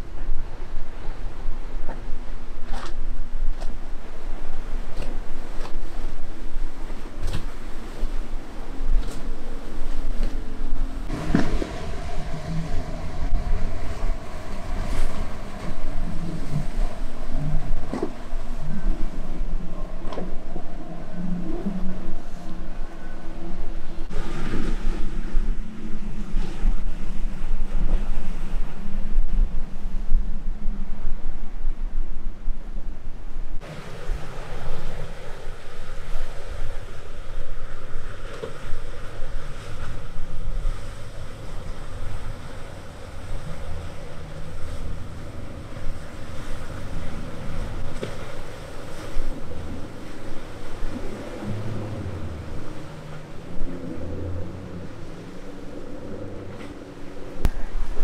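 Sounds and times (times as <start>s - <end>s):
waves breaking: 0.0s - 58.0s
wind buffeting microphone: 0.0s - 58.0s
boat engine drone: 3.4s - 31.8s, 32.4s - 58.0s
outboard motors running: 6.8s - 29.4s, 33.6s - 58.0s.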